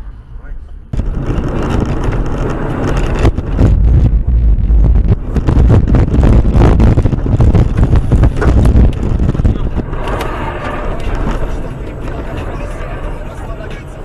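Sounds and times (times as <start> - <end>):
vehicle low rumble: 0.0 - 14.0
wind buffeting microphone: 0.9 - 14.0.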